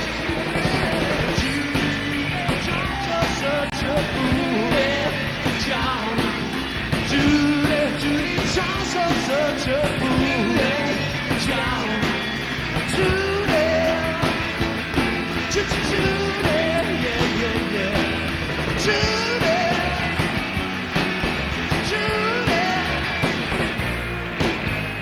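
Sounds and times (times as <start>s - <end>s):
bending lead guitar melody: 0.0s - 25.0s
rock band playing: 0.0s - 25.0s.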